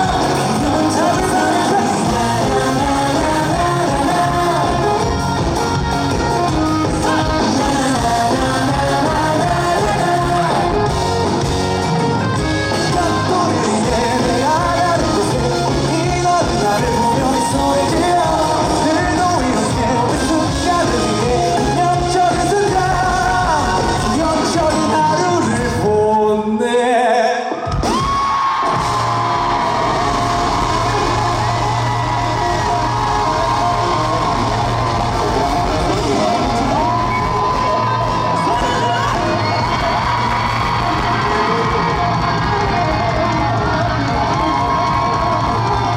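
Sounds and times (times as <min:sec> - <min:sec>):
fans yelling: 0:00.0 - 0:26.0, 0:27.6 - 0:45.9
live rock band: 0:00.0 - 0:26.2, 0:27.6 - 0:45.9
person singing: 0:00.0 - 0:28.0, 0:28.7 - 0:45.9.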